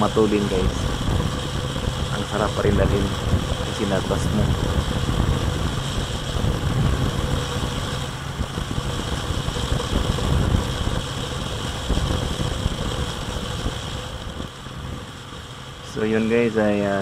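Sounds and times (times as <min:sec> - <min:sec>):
motorcycle engine cruising: 0:00.0 - 0:17.0
wind noise rumble: 0:00.0 - 0:17.0.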